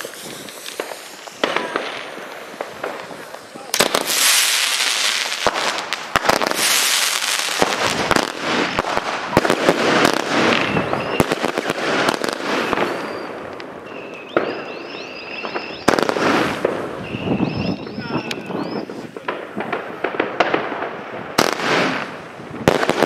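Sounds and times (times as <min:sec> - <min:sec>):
firework whistles: 0:00.0 - 0:19.2
firework cracks and crackling: 0:00.0 - 0:23.0.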